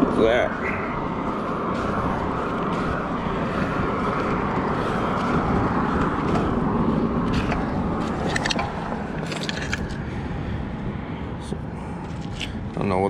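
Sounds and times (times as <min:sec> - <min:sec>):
road traffic: 0:00.0 - 0:13.0
vehicle passing by: 0:00.0 - 0:13.0.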